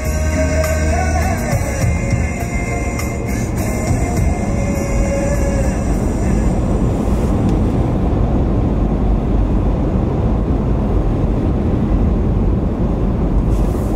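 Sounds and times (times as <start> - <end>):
car interior road rumble: 0.0 - 13.9.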